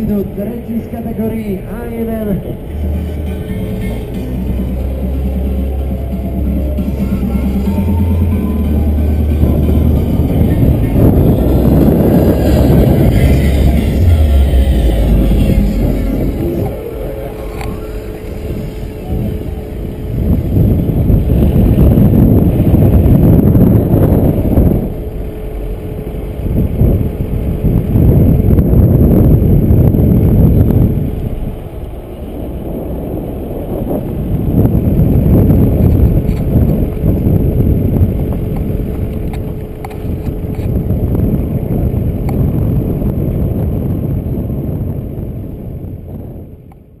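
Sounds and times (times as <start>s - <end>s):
car engine and tyres rumbling: 0.0s - 47.0s
wind buffeting microphone: 0.0s - 47.0s.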